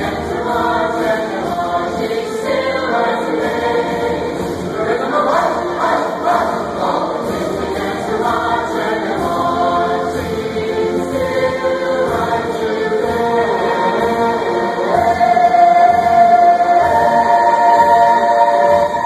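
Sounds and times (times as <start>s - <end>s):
band accompaniment: 0.0s - 19.0s
chorus singing: 0.0s - 19.0s.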